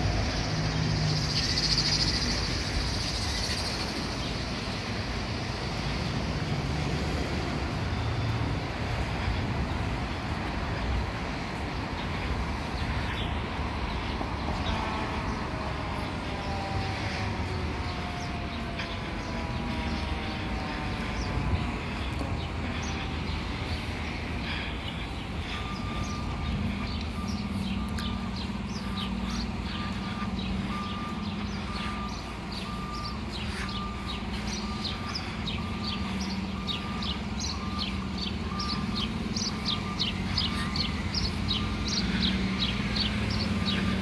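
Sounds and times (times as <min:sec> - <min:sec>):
city street traffic: 0:00.0 - 0:44.0
distant fire engine siren wailing: 0:00.0 - 0:44.0.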